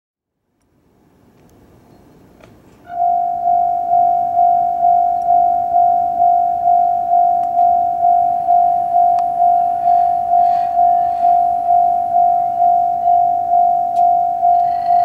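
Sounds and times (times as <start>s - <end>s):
level-crossing warning bell ringing: 2.9s - 15.0s.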